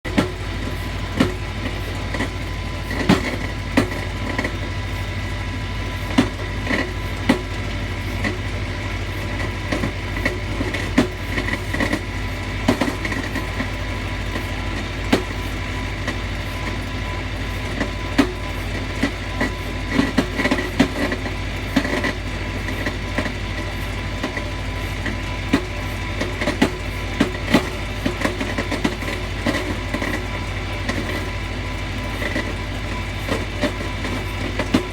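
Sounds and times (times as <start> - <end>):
tractor running: 0.0 - 34.9
sharp clicks and knocks: 0.1 - 34.9.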